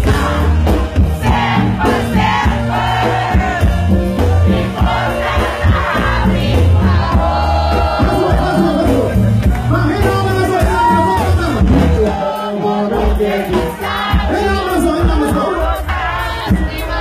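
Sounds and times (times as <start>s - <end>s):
congas: 0.0s - 17.0s
drums: 0.0s - 17.0s
heavy bass line: 0.0s - 17.0s
live band music: 0.0s - 17.0s.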